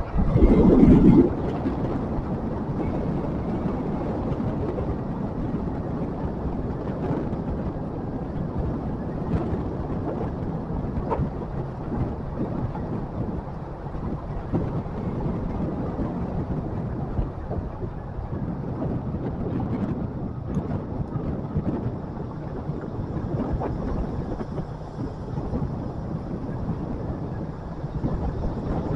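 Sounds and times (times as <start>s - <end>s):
wind rumble on microphone: 0.0s - 28.9s.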